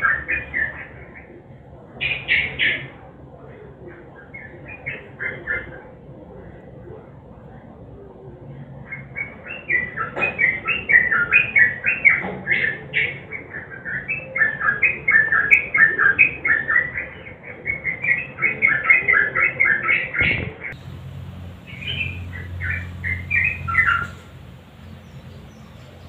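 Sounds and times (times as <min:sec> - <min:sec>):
bird chirping song: 0:00.0 - 0:01.4, 0:02.0 - 0:03.0, 0:03.9 - 0:05.8, 0:08.8 - 0:26.0.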